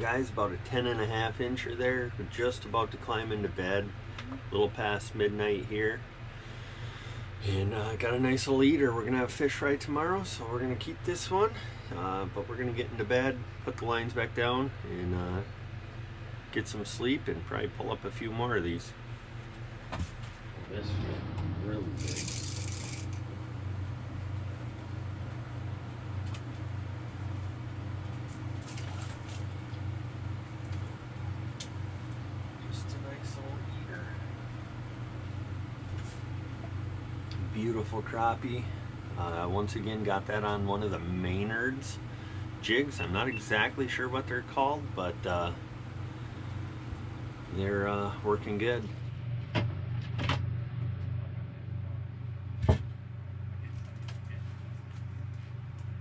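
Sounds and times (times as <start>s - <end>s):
low pulsing mechanical hum: 0.0s - 56.0s.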